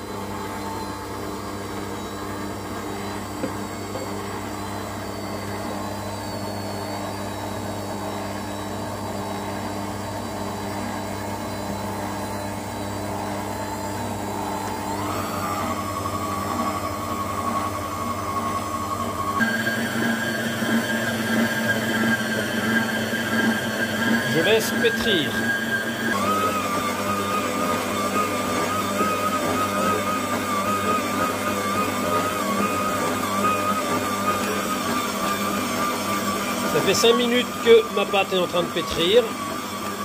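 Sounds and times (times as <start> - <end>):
stand mixer motor whining: 0.0 - 40.0.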